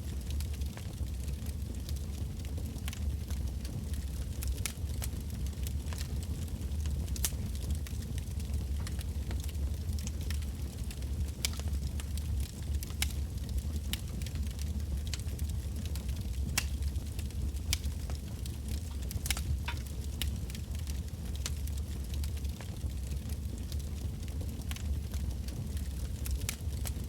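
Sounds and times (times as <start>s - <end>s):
fire low rumble: 0.0s - 27.0s
firewood crackling and popping: 0.0s - 27.0s.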